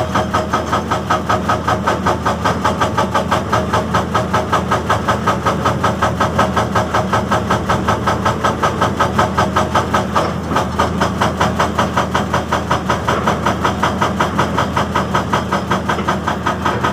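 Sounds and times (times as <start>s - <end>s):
diesel engine running: 0.0s - 16.9s
hydraulic breaker hammering rock: 0.0s - 16.9s.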